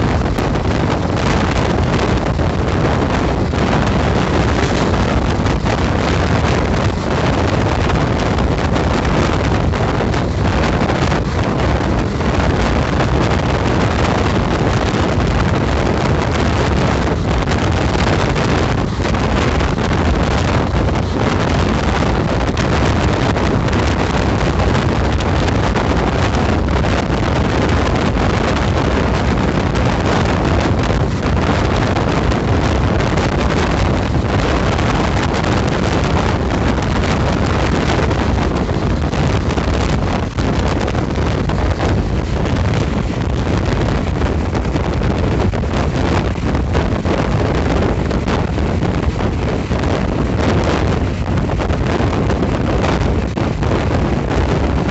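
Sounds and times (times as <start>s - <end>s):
train rumbling at speed: 0.0s - 54.9s
wind buffeting microphone: 0.0s - 54.9s.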